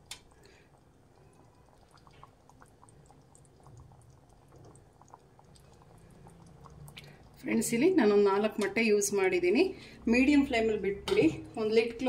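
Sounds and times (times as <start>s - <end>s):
thick stew simmering with pops: 0.0s - 12.0s.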